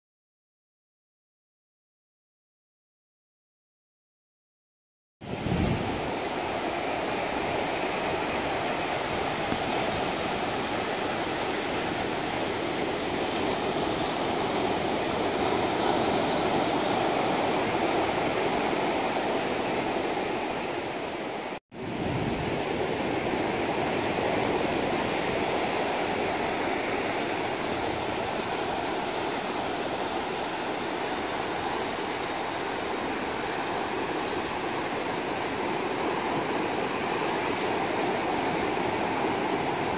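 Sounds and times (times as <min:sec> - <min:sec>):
ocean surf breaking on beach: 0:05.2 - 0:39.9.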